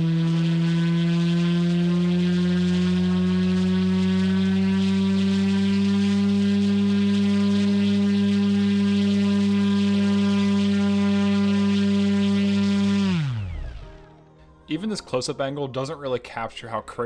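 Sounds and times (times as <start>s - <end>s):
motor spinning propeller hum: 0.0s - 14.1s.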